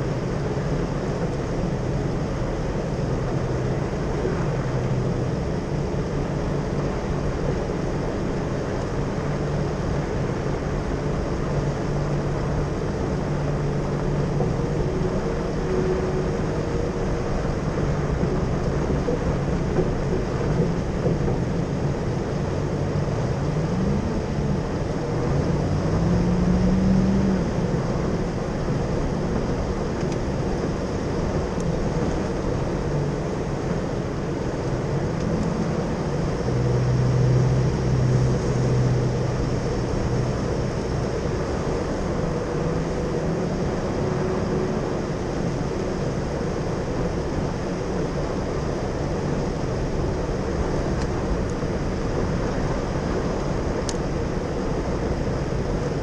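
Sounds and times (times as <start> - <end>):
off-road vehicle engine: 0.0 - 56.0
steady rushing noise: 0.0 - 56.0.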